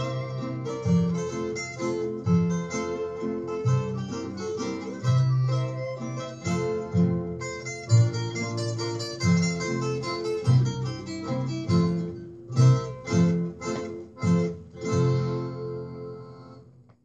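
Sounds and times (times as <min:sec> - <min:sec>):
loud zither chords: 0:00.0 - 0:16.6
plucked zither melody: 0:00.0 - 0:16.6
bass notes: 0:00.0 - 0:16.9.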